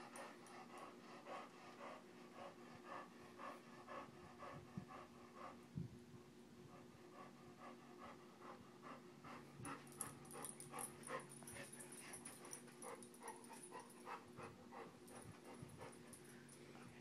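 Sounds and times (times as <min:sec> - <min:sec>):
dog panting: 0:00.0 - 0:05.7, 0:06.7 - 0:17.0.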